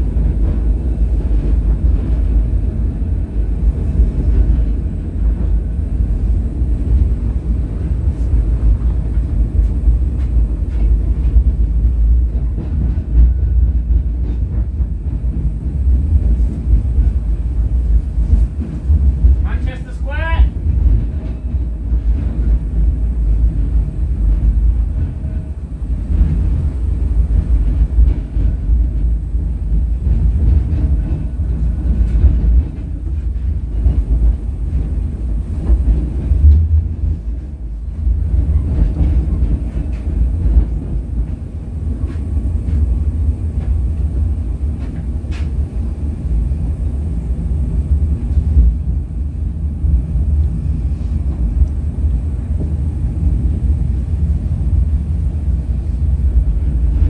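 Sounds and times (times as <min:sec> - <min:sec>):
tram low rumble: 0:00.0 - 0:57.0.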